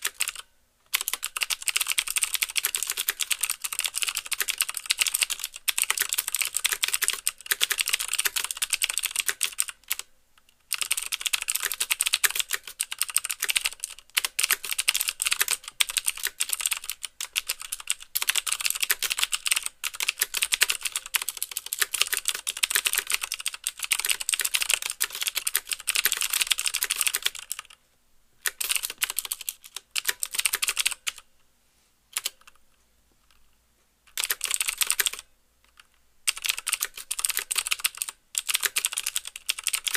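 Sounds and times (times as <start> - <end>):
mechanical keyboard typing: 0.0 - 10.1, 10.7 - 27.8, 28.4 - 31.2, 32.2 - 32.6, 34.1 - 39.9.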